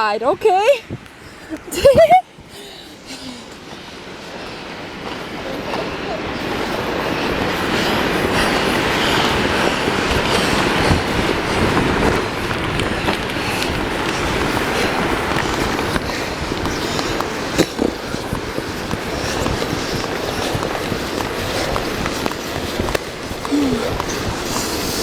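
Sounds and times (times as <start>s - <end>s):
muffled heavy wind rushing: 0.0s - 25.0s.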